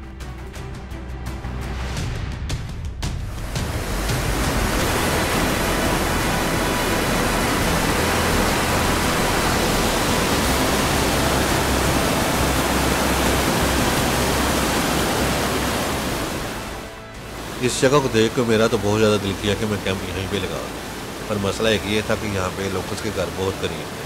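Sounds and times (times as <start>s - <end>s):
fast-flowing water rushing: 3.3s - 24.0s.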